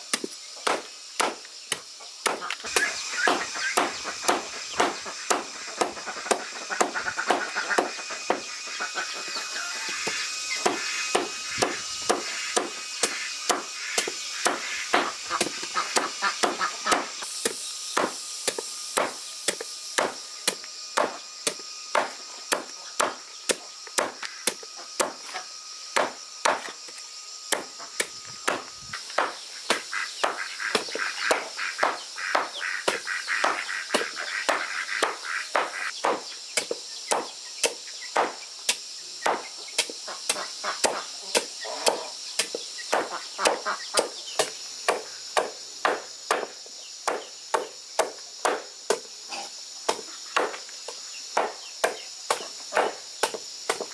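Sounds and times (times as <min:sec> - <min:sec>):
steady high hiss: 0:00.0 - 0:53.9
blade chopping: 0:00.1 - 0:08.5, 0:10.0 - 0:49.0.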